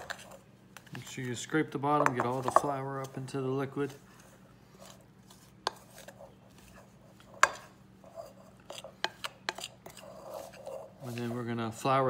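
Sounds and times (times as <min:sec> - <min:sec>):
spoon stirring dough in bowl: 0:00.0 - 0:01.3, 0:01.9 - 0:12.0.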